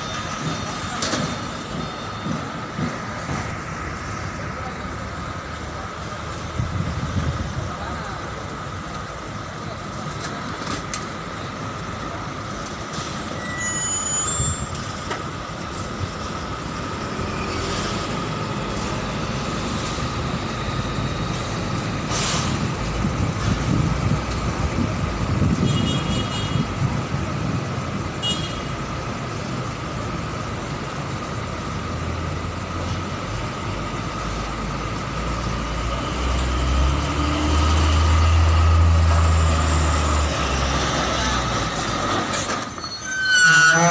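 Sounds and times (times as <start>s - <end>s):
heavy truck engines: 0.0s - 43.9s.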